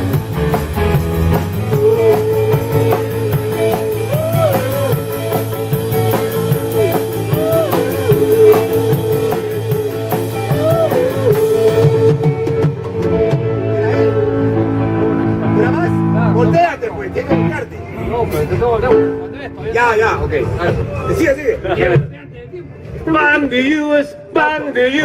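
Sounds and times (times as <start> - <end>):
bass guitar: 0.0 - 23.4
drums: 0.0 - 25.0.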